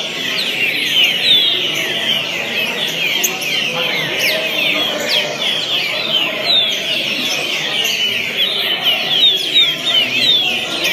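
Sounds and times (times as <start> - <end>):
bird singing whistled notes: 0.0 - 10.9.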